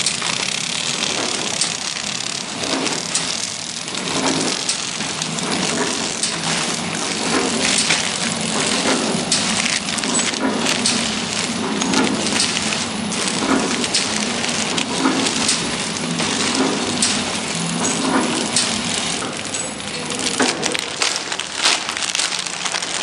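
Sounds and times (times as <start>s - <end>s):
packing machine running: 0.0s - 23.0s
plastic film crinkling: 0.0s - 23.0s.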